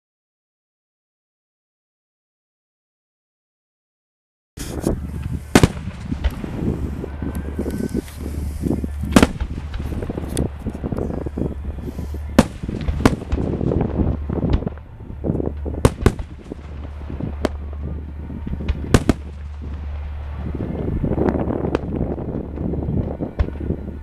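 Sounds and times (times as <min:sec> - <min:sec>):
fireworks bursting with sharp bangs: 0:04.6 - 0:24.0
steady low hum: 0:04.6 - 0:24.0.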